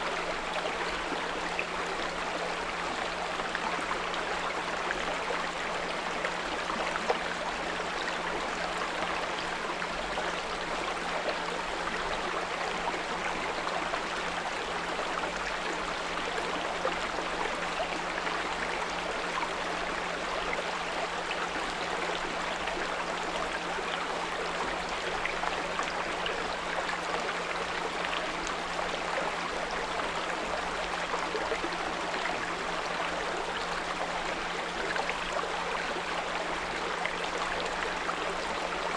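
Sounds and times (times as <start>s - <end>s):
brook flowing: 0.0s - 38.9s.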